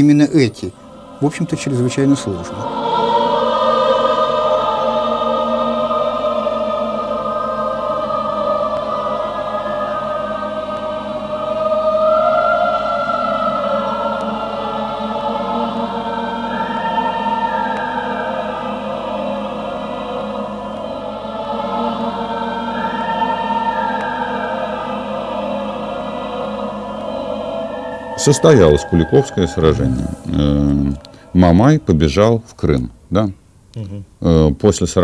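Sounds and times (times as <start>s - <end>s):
choir singing long notes: 0.0s - 32.4s.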